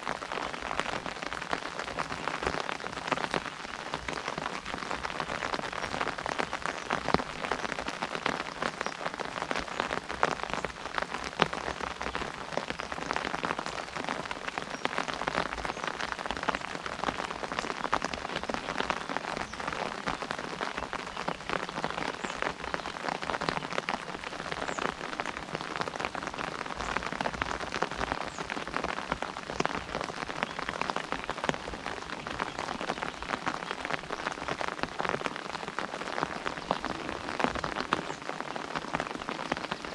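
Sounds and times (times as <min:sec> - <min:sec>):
rain drumming on an umbrella: 0:00.0 - 0:39.9.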